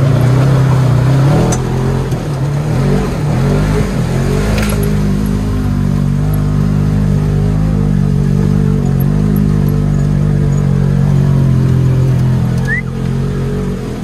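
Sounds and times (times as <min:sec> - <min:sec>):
vehicle engine running under load: 0:00.0 - 0:14.0
water washing around vehicle: 0:00.0 - 0:14.0.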